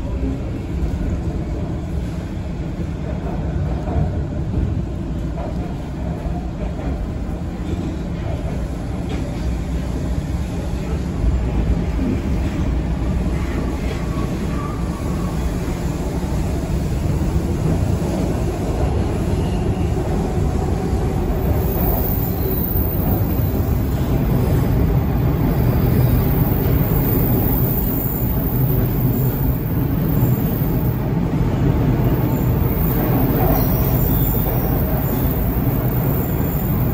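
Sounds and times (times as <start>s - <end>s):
subway train wheels rumbling: 0.0s - 36.9s.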